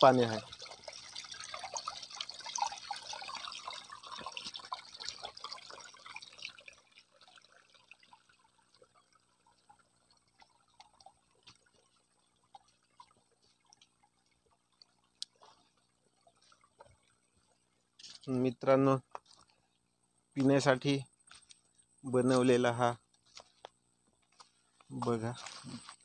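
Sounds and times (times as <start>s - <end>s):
small ticks and drips: 0.0s - 26.0s
stream trickling over rocks: 0.0s - 26.0s.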